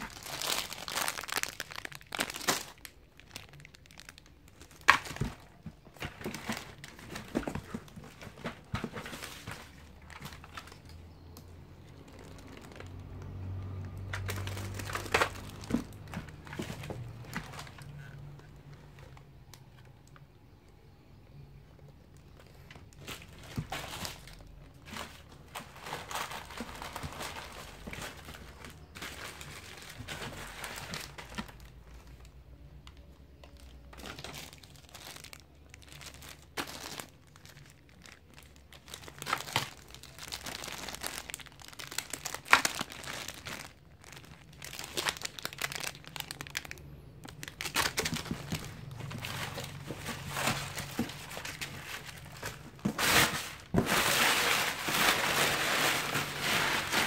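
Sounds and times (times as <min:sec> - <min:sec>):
plastic bags crinkling: 0:00.0 - 0:20.7, 0:21.8 - 0:57.0.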